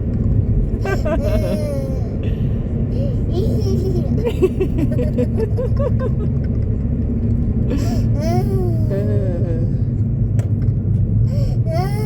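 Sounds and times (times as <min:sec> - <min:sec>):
moving car rumble: 0:00.0 - 0:12.0.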